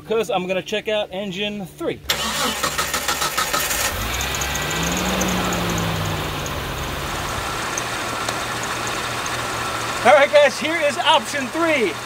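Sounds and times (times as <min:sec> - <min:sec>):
car engine idling: 0:02.1 - 0:12.0.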